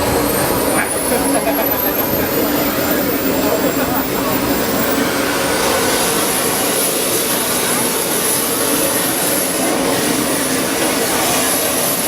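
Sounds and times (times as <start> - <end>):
jet turbine engine whine: 0.0 - 12.0.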